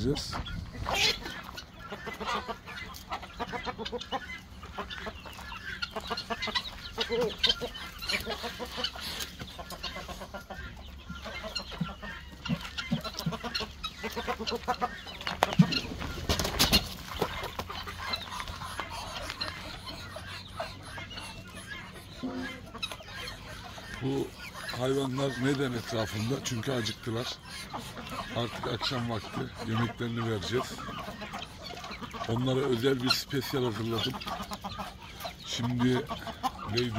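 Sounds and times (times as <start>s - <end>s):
poultry clucking and calling: 0.0s - 36.9s.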